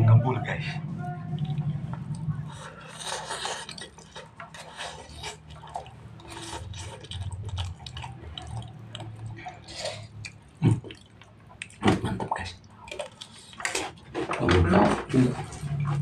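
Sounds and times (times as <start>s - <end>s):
mouth smacking while chewing: 1.3s - 16.0s.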